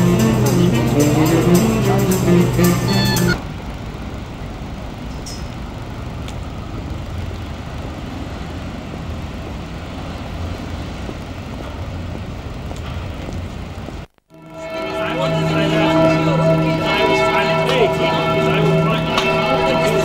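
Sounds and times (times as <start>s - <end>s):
low rumble of cars passing: 0.0s - 20.0s.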